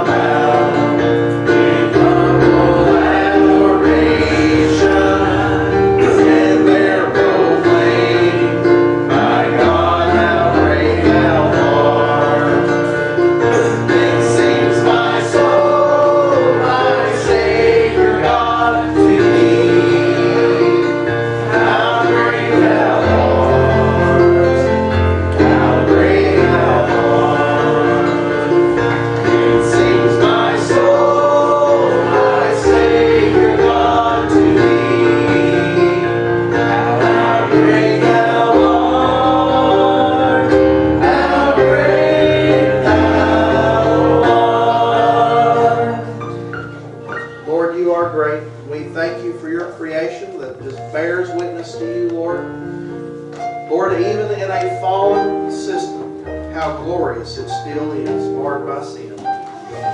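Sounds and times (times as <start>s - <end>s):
choir singing gospel song: 0.0s - 49.0s
instrumental accompaniment: 0.0s - 59.9s.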